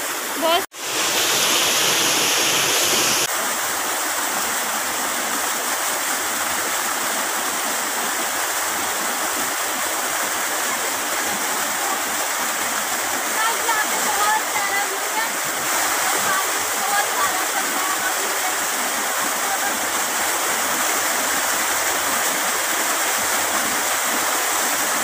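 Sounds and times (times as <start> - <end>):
stream rushing over rocks: 0.0 - 25.0
waterfall splashing into pool: 0.0 - 25.0.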